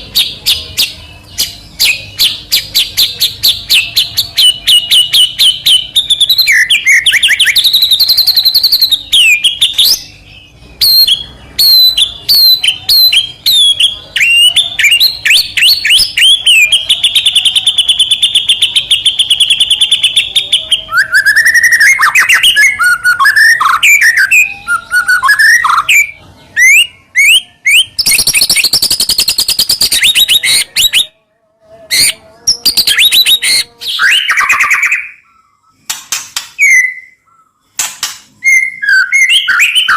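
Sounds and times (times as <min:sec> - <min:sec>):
bird singing loudly: 0:00.0 - 0:31.2, 0:31.9 - 0:39.9.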